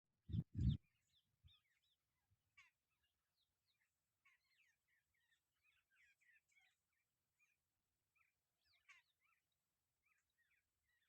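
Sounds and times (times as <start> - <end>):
birds chirping: 0.3 - 11.0.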